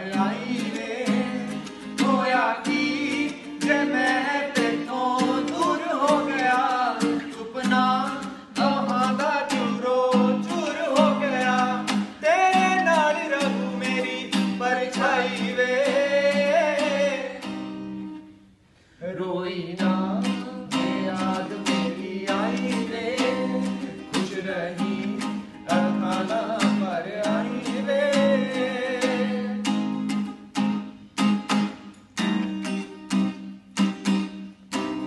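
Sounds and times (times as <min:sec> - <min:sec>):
man singing: 0:00.0 - 0:17.6, 0:19.0 - 0:30.0
strummed acoustic guitar: 0:00.0 - 0:35.0.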